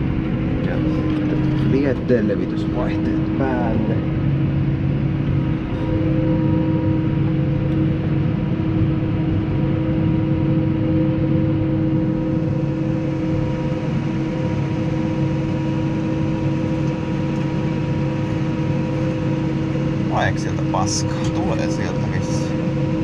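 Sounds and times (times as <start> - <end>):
tractor engine drone: 0.0 - 23.0.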